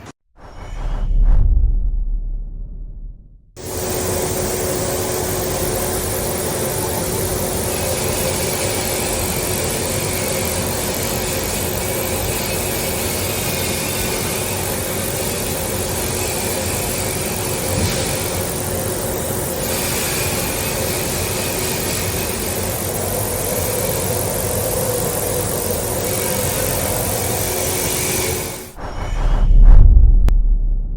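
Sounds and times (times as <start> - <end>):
industrial machinery humming: 3.6 - 29.6.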